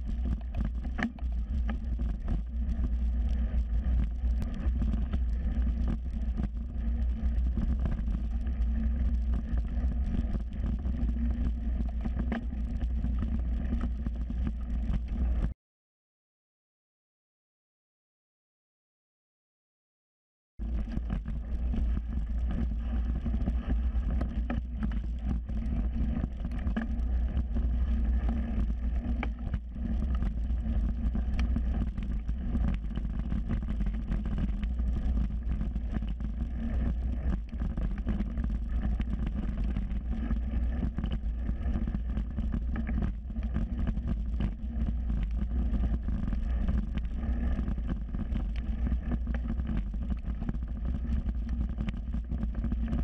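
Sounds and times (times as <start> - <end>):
wind rumble on microphone: 0.0 - 15.6, 20.6 - 53.0.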